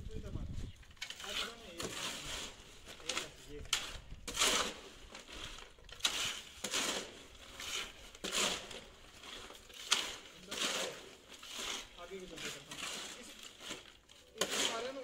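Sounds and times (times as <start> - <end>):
shovel scraping wet concrete: 1.0 - 15.0.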